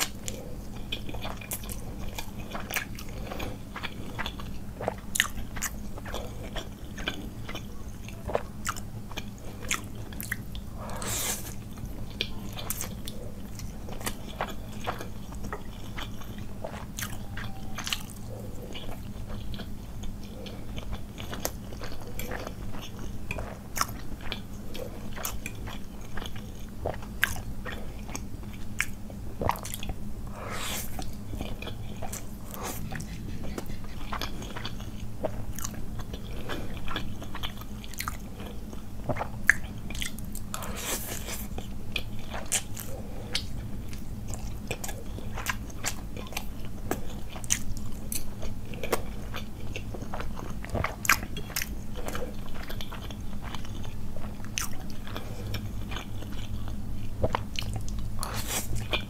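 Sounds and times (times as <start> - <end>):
person chewing noodles: 0.0 - 59.0.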